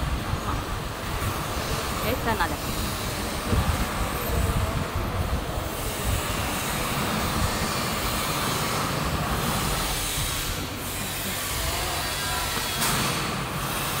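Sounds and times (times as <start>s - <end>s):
packing machine running: 0.0s - 14.0s.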